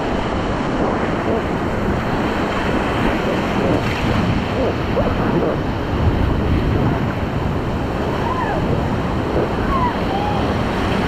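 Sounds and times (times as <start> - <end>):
rushing river water: 0.0 - 11.0
wind buffeting microphone: 0.0 - 11.0.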